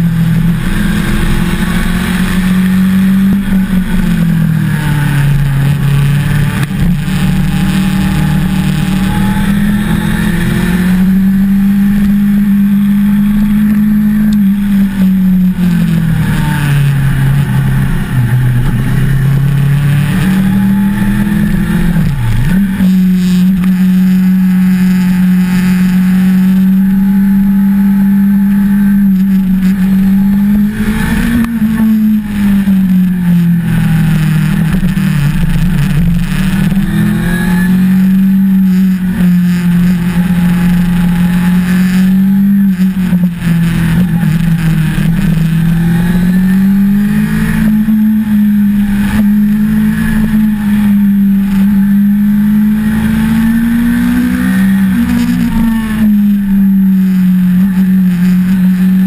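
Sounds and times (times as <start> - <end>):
motorcycle engine pulling uphill: 0.0 - 59.0.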